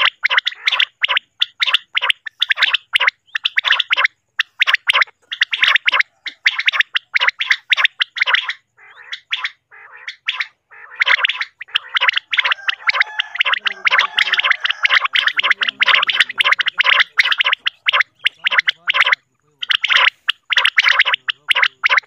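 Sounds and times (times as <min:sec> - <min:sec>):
quail calls: 0:00.0 - 0:22.0.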